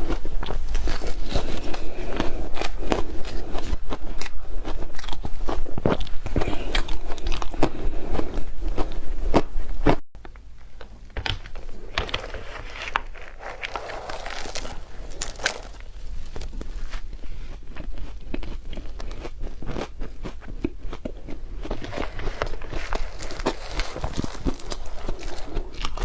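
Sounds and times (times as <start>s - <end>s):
person chewing crunchy ice: 0.0s - 9.5s, 11.8s - 26.0s.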